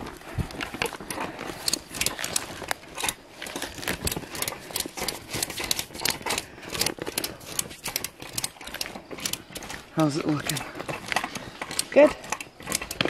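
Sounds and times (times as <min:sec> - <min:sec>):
ratchet strap clicking: 0:00.5 - 0:13.0.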